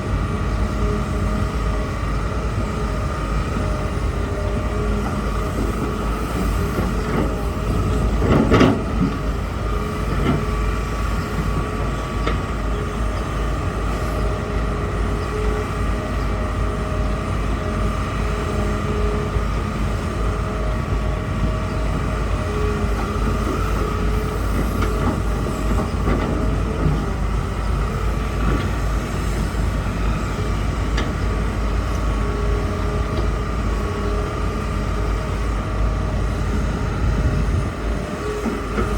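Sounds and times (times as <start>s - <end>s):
excavator running: 0.0s - 38.9s.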